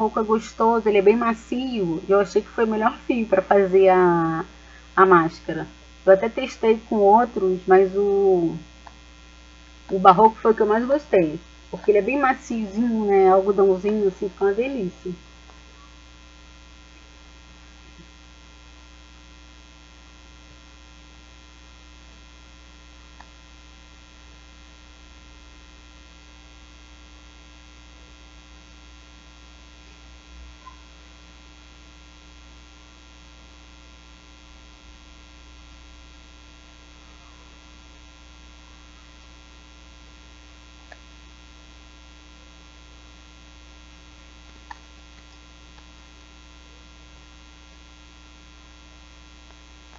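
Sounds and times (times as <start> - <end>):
electrical mains hum: 0.0 - 49.9.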